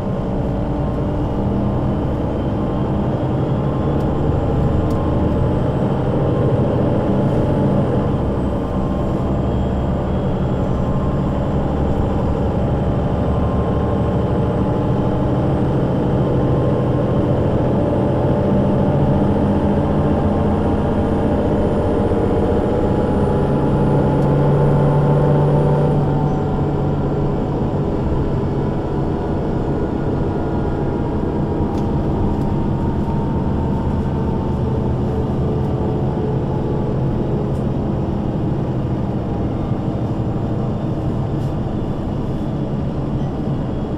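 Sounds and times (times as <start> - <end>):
bus diesel engine running: 0.0 - 43.9.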